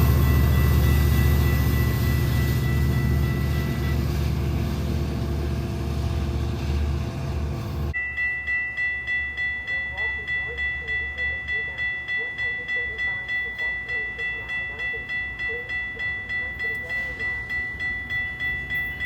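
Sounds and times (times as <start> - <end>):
thin high ringing tone: 0.0 - 4.3, 7.6 - 19.0
railroad crossing bell ringing: 0.0 - 6.4, 7.5 - 19.0
diesel train rumbling past: 0.0 - 19.0.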